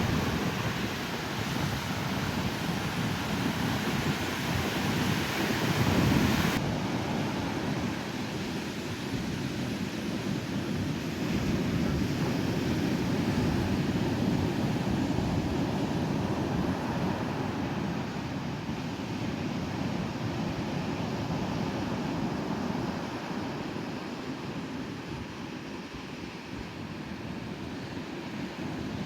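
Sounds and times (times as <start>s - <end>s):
surf washing up beach: 0.0s - 29.0s.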